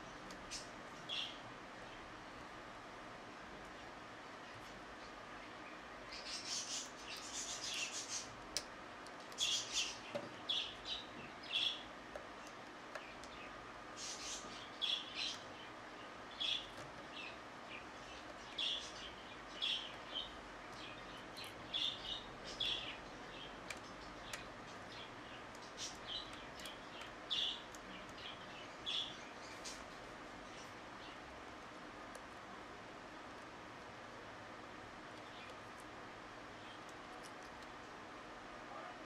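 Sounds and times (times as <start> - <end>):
small bird chirping: 0.0 - 2.1, 3.7 - 8.4, 9.2 - 31.3, 35.1 - 37.7.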